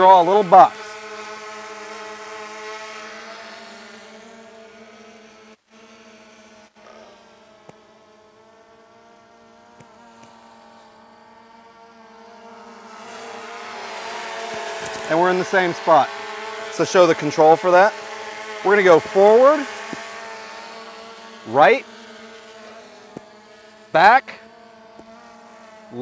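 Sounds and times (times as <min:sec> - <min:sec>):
quadcopter propellers buzzing: 0:00.0 - 0:26.0.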